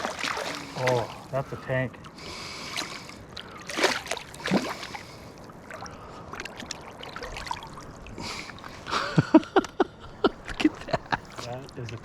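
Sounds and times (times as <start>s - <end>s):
river water splashing: 0.0s - 12.0s.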